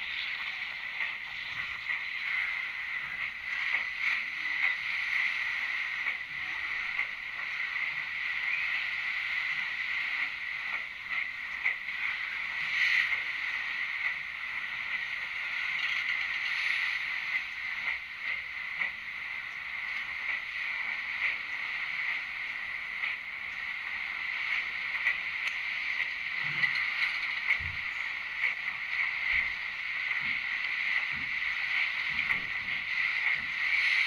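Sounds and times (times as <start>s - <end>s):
faint clicks: 0.0s - 34.0s
train wheels rolling: 0.0s - 34.0s.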